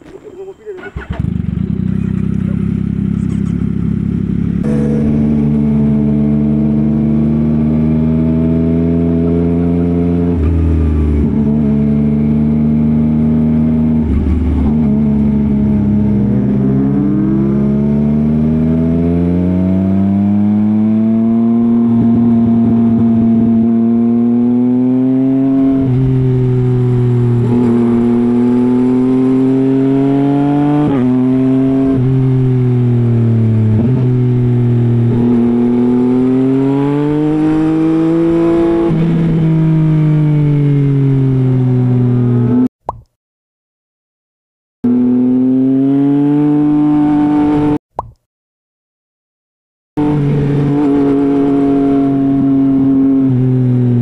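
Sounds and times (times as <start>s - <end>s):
motorcycle engine revving: 0.8s - 42.7s, 44.8s - 47.8s, 50.0s - 54.0s.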